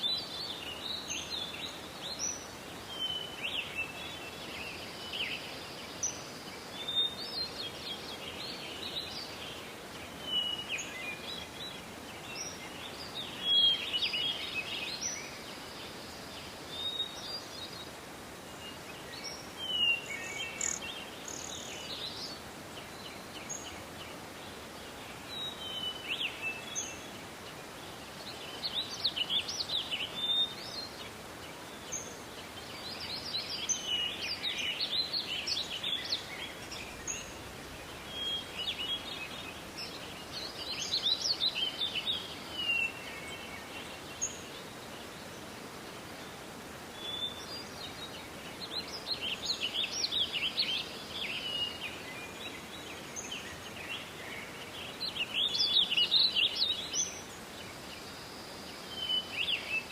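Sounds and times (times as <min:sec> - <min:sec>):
soft forest ambience hiss: 0:00.0 - 0:59.9
songbirds chirping and trilling: 0:00.0 - 0:59.9.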